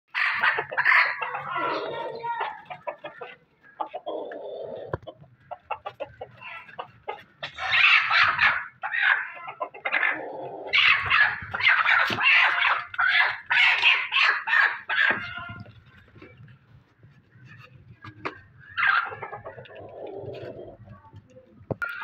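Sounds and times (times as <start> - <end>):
chickens squawking: 0.1 - 20.9.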